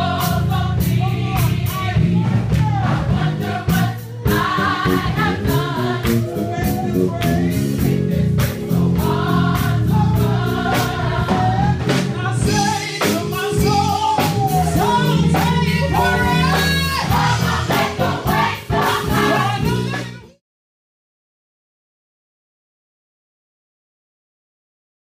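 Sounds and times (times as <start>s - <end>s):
gospel choir singing: 0.0s - 20.2s
bass line and drums: 0.0s - 20.4s.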